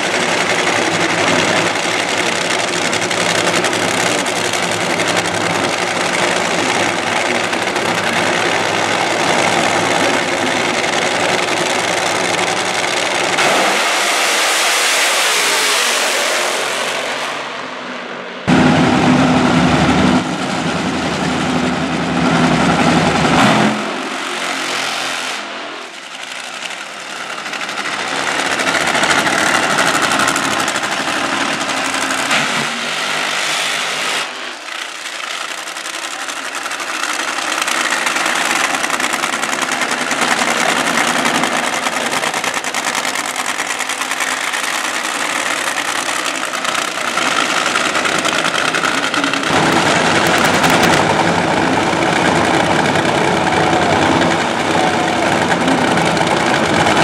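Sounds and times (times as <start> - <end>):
loud drag racing engines: 0.0 - 57.0.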